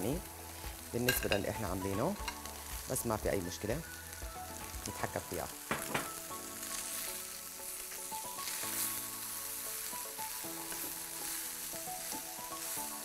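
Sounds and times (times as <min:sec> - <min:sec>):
food sizzling in a pan: 0:00.0 - 0:13.0
soft background music: 0:00.0 - 0:13.0.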